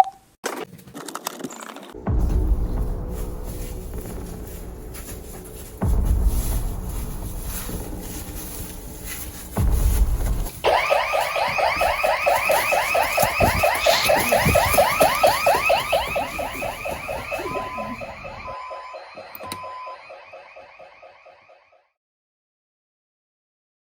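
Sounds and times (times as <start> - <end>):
security alarm siren sweeping: 2.1 - 21.9.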